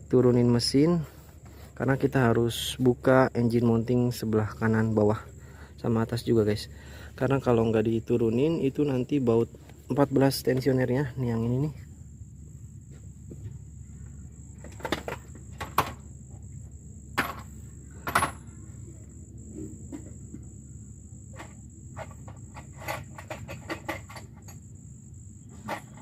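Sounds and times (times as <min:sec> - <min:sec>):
insects trilling: 0:00.0 - 0:26.0
steady low hum: 0:00.0 - 0:26.0.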